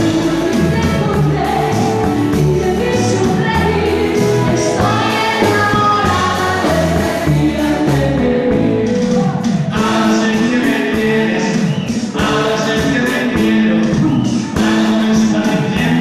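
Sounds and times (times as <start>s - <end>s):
loud music: 0.0s - 16.0s
voices singing together: 0.0s - 16.0s.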